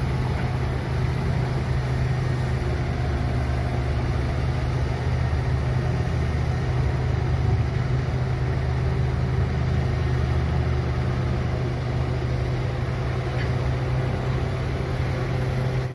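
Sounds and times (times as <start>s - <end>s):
heavy diesel engine droning: 0.0s - 15.9s.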